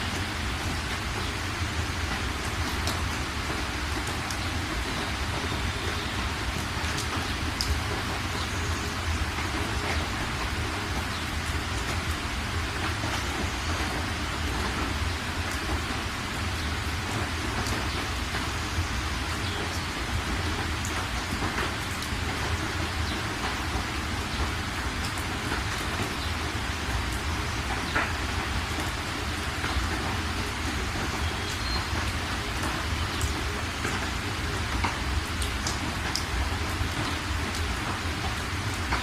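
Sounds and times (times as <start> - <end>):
sharp raindrop ticks: 0.0 - 39.0
steady rain falling: 0.0 - 39.0.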